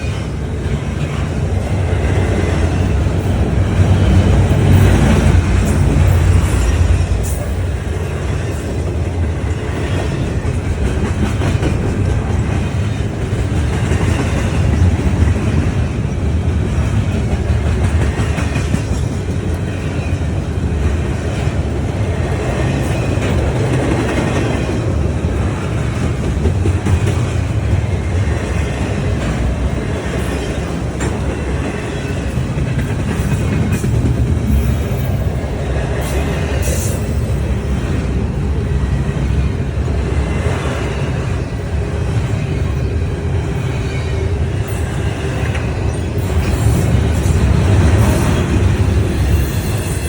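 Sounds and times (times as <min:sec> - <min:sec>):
train rumbling past: 0:00.0 - 0:50.0
wheels clacking over rail joints: 0:00.0 - 0:50.0.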